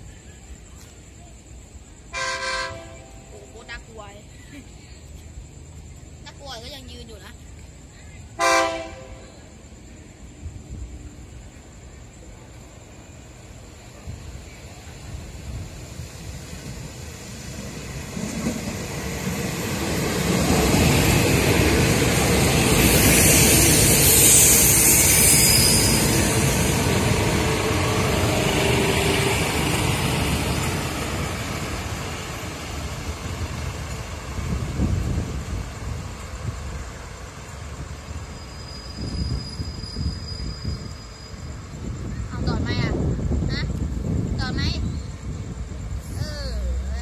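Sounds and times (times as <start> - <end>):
diesel train passing: 0.0 - 47.0.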